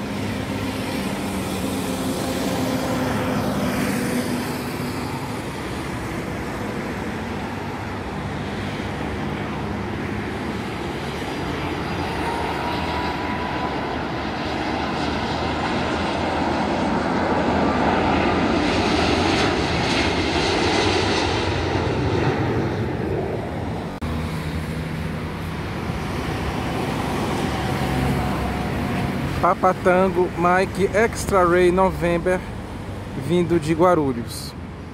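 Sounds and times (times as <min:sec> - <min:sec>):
jet airliner passing overhead: 0:00.0 - 0:34.9.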